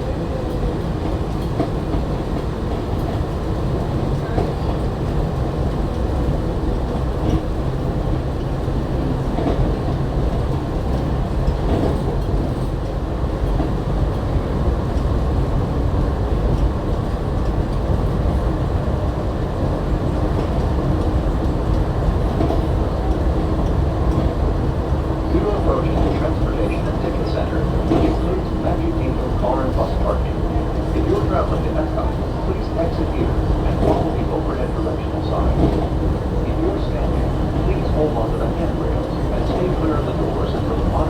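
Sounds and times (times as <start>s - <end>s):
monorail running gear rumble: 0.0s - 41.0s.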